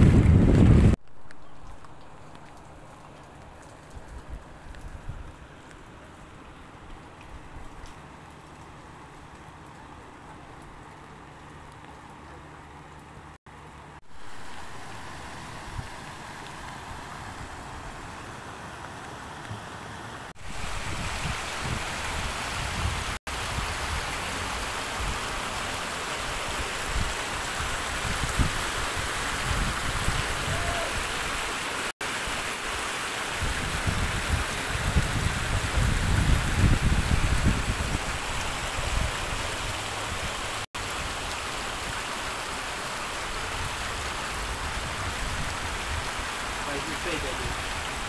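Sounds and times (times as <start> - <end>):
floodwater running: 0.0 - 48.0.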